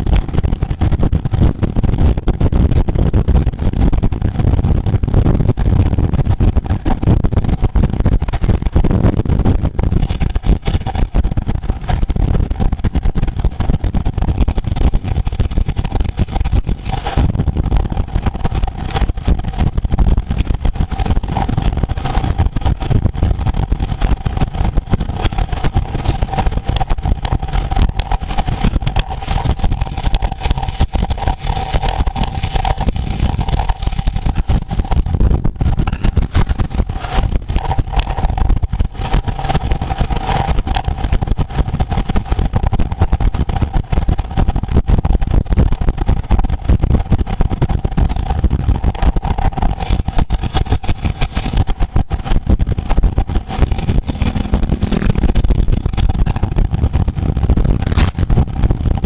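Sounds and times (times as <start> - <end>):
steady hum: 0.0 - 59.0
wind buffeting microphone: 0.0 - 59.0.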